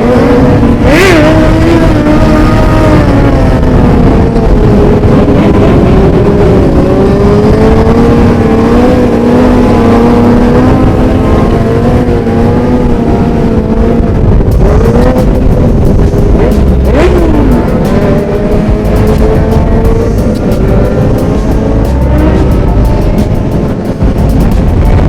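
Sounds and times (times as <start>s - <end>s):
motorcycle engines running: 0.0s - 25.0s.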